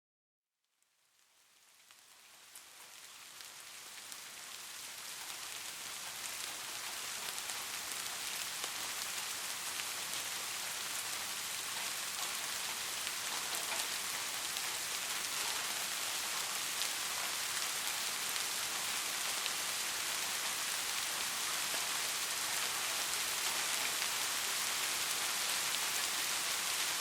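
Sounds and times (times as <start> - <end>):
steady rain hiss: 0.7 - 27.0
rain drops tapping: 1.8 - 27.0.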